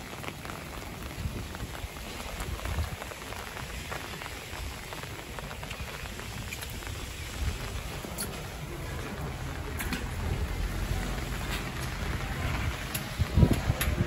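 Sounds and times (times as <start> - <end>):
rain pattering on pavement: 0.0 - 14.0.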